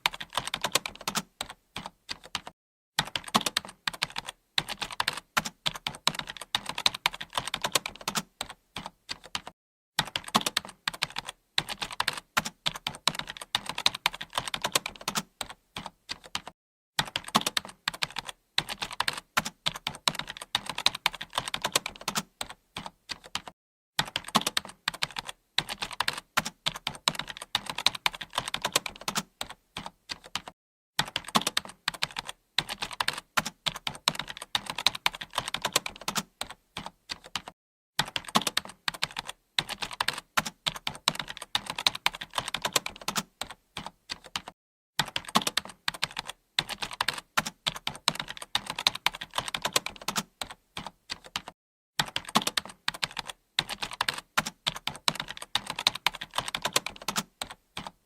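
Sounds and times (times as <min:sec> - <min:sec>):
typing on computer keyboard: 0:00.0 - 0:58.0.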